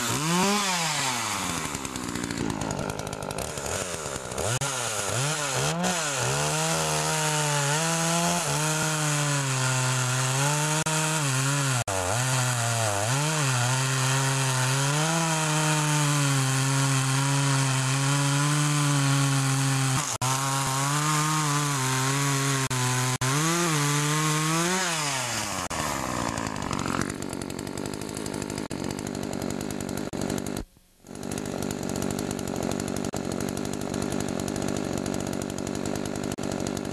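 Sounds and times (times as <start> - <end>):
chainsaw cutting log: 0.0 - 36.9.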